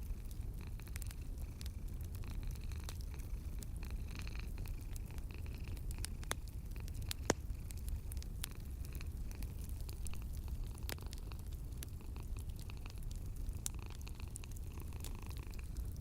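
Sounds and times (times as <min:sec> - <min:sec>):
cat purring: 0:00.0 - 0:16.0
wood fire crackling: 0:00.0 - 0:16.0.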